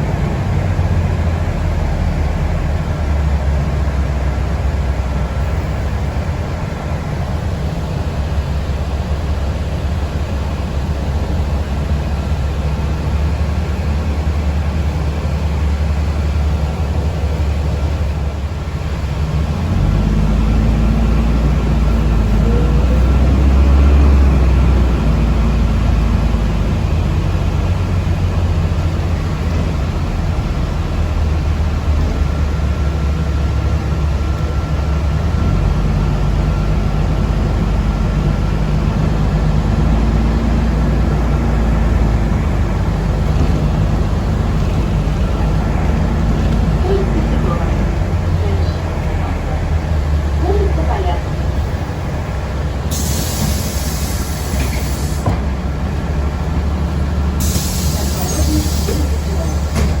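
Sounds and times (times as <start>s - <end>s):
bus rumble from inside: 0.0s - 60.0s.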